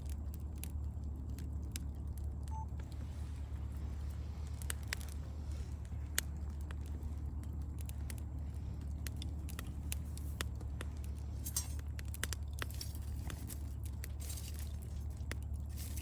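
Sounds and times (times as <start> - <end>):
campfire crackling: 0.0 - 16.0
steady low hum: 0.0 - 16.0.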